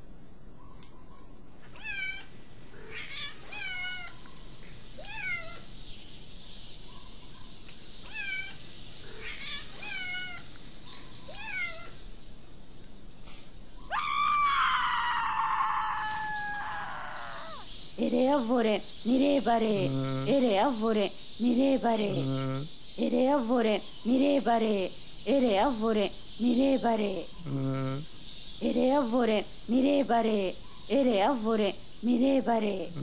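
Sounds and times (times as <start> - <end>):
steady high hiss: 1.6 - 33.0.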